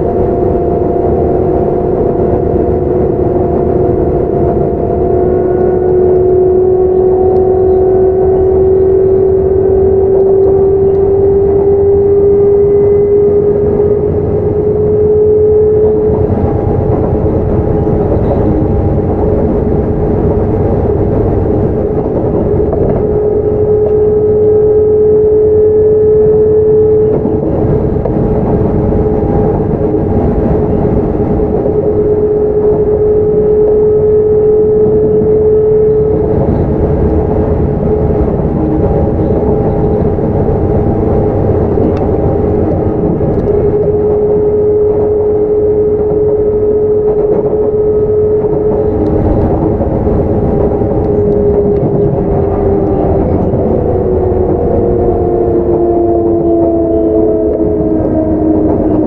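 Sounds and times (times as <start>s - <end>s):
train motor whine: 0.0s - 59.0s
wheels rumbling on rail: 0.0s - 59.0s.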